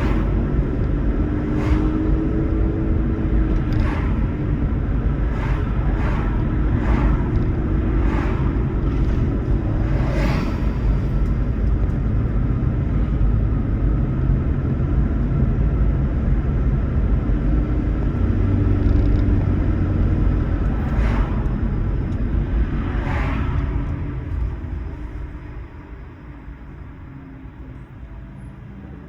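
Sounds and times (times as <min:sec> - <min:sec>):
road and tyre noise rumble: 0:00.0 - 0:29.0.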